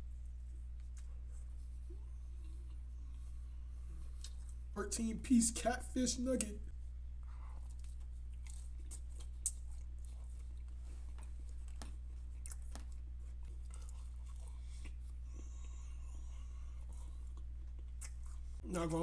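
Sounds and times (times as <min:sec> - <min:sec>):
steady low hum: 0:00.0 - 0:19.0
crunchy chewing: 0:00.4 - 0:04.7, 0:07.2 - 0:18.6.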